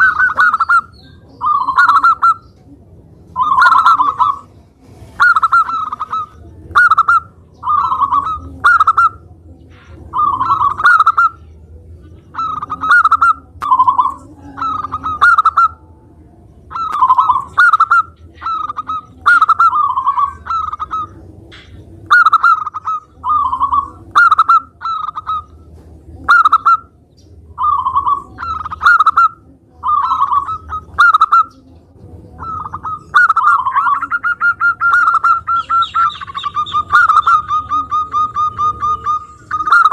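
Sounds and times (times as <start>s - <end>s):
dove cooing: 0.0s - 16.0s, 16.7s - 39.9s.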